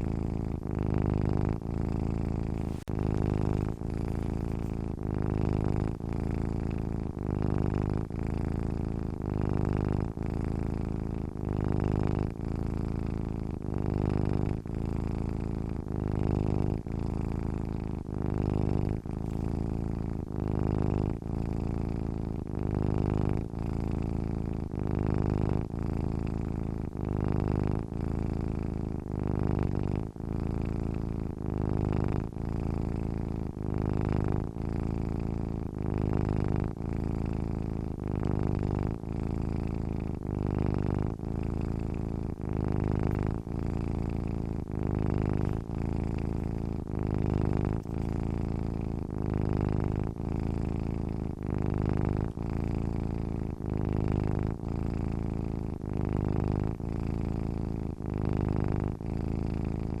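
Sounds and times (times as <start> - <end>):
cat purring: 0.0 - 60.0.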